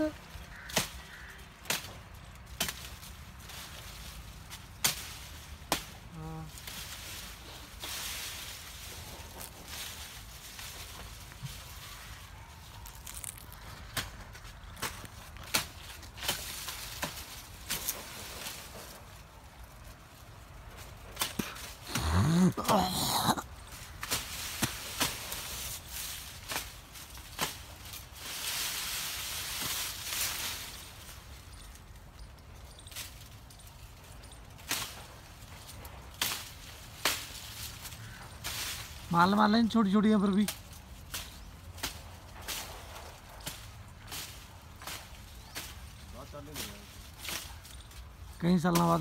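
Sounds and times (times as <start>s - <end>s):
footsteps on dry grass and leaves: 0.0s - 49.0s
tree branches cracking: 0.0s - 49.0s.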